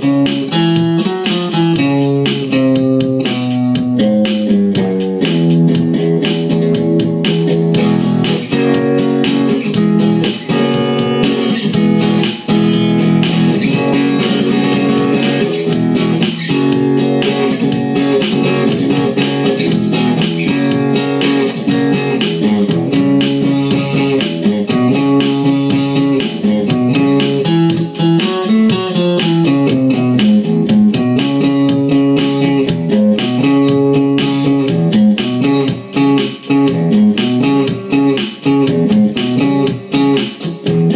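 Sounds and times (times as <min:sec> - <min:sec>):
bass line: 0:00.0 - 0:40.9
electric guitar blues: 0:00.0 - 0:40.9.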